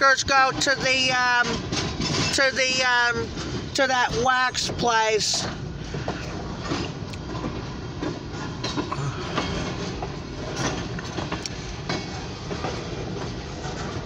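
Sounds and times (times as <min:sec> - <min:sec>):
train low rumble: 0:00.0 - 0:14.0
train wheels clicking over rail joints: 0:00.0 - 0:14.0.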